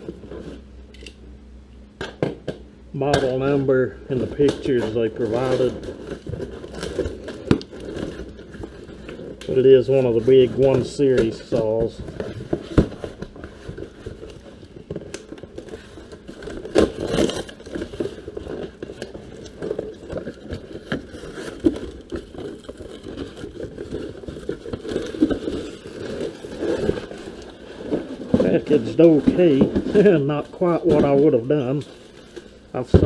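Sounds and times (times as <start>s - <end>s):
package scraping and rustling: 3.0s - 33.0s.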